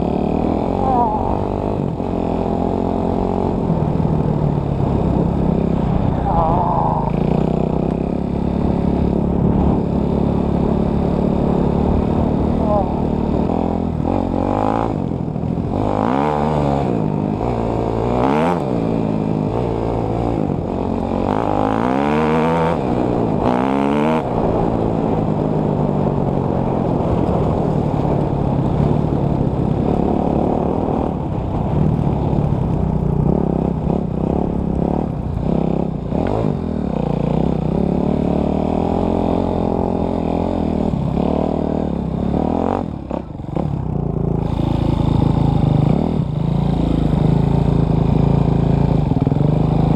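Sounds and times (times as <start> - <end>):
dirt bike engine revving: 0.0 - 25.8, 28.7 - 49.9.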